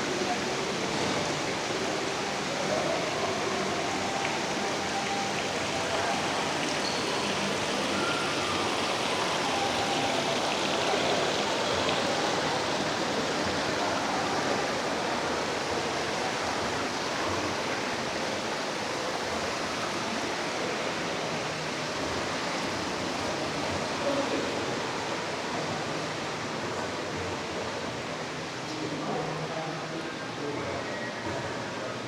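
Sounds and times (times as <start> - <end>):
water rushing: 0.0 - 32.0.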